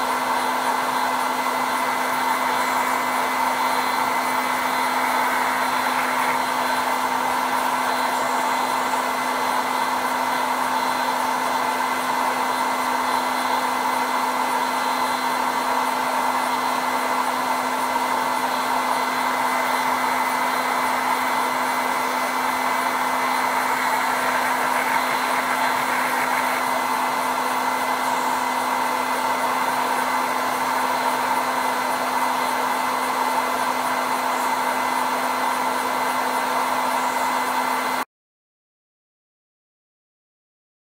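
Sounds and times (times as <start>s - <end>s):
mill cutting metal: 0.0s - 38.0s.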